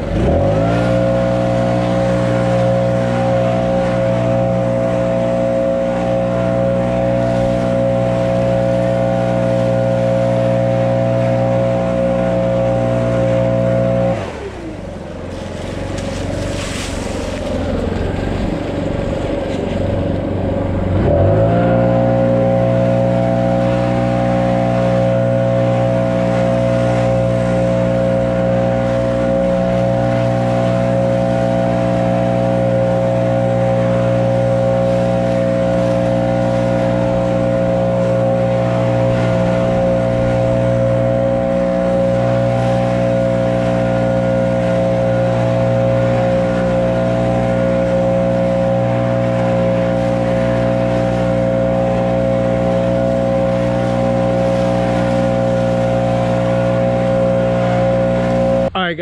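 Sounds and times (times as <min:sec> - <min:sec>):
small gasoline engine running: 0:00.0 - 0:58.8.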